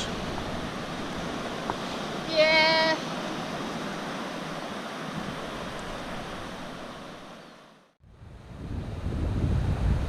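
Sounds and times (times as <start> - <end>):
wind noise: 0.0 - 7.4, 8.0 - 10.0
surf washing on beach: 0.0 - 10.0.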